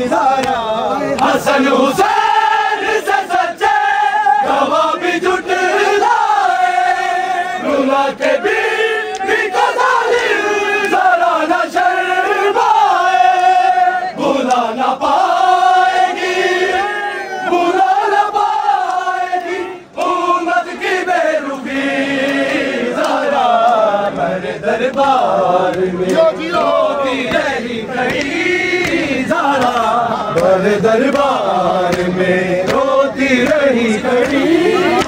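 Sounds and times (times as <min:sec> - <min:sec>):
men chanting a lament: 0:00.0 - 0:35.0.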